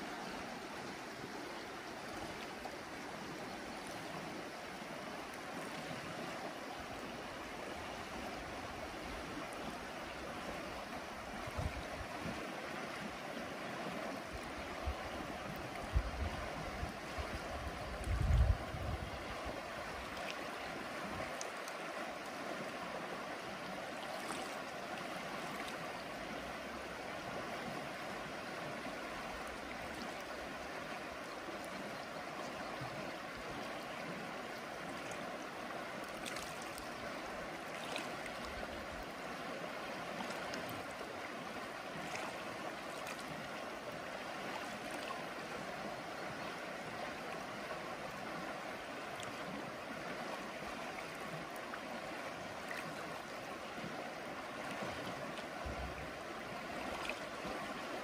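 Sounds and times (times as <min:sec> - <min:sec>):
faint water splashes: 0:00.0 - 0:58.0
river water rushing over riffle: 0:00.0 - 0:58.0.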